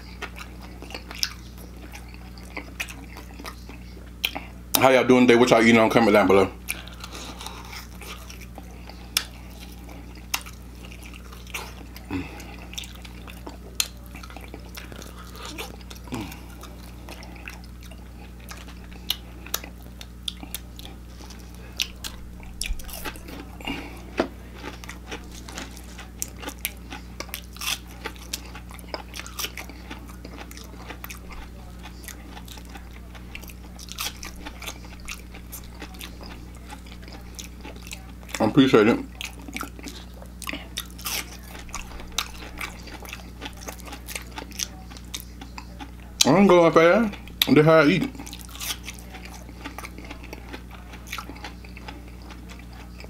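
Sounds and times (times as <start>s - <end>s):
crunchy biting and chewing: 0.0s - 4.8s, 6.6s - 53.0s
low electrical hum: 0.0s - 53.0s.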